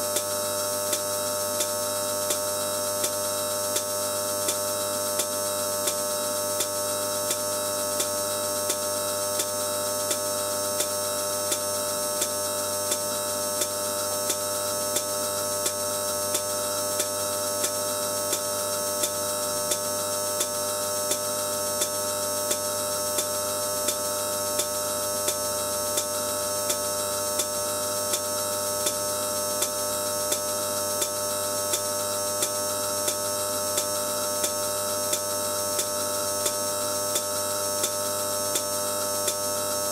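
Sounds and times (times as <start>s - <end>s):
electrical discharge buzz and hiss: 0.0s - 39.9s.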